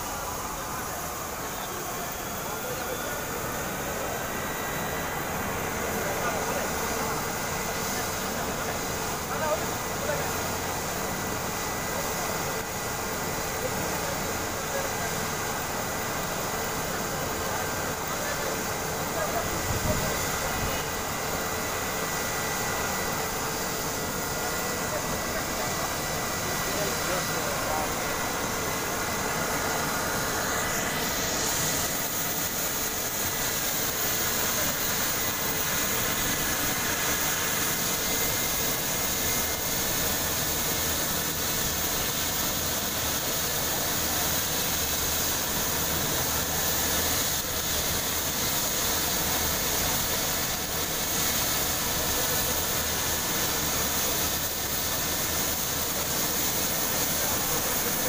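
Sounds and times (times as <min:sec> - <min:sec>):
helicopter rotor rush: 0:00.0 - 0:58.0
helicopter turbine whine: 0:00.0 - 0:58.0.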